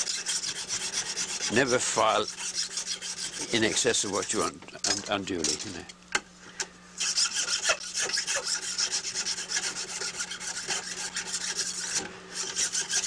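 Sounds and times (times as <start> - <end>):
hand file rasping on bamboo: 0.0 - 4.5, 7.0 - 13.0.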